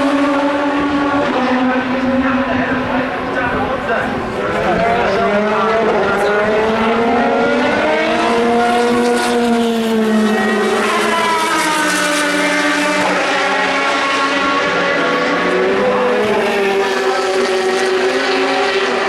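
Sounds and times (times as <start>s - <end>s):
race car engines passing: 0.0s - 19.0s.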